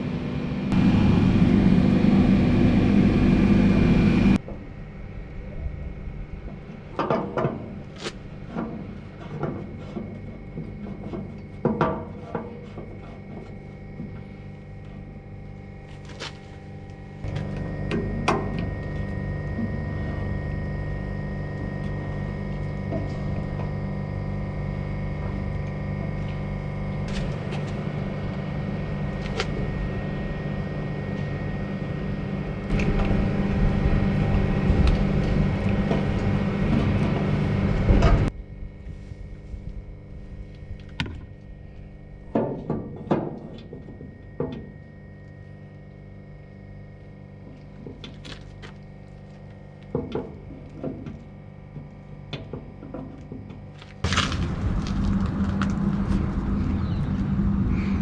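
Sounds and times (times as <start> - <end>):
steady machine noise: 0.0 - 42.5, 53.7 - 58.0
mechanical hum: 0.0 - 58.0.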